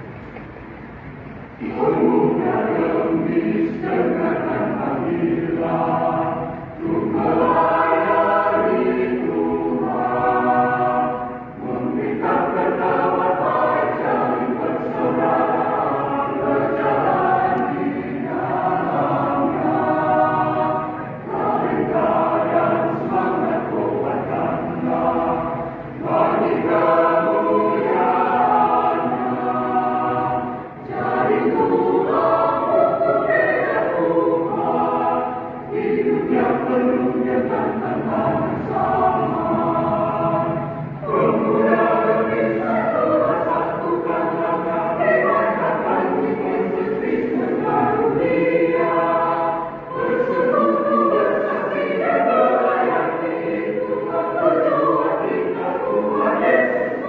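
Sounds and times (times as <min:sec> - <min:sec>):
choir singing: 0:01.4 - 0:57.0.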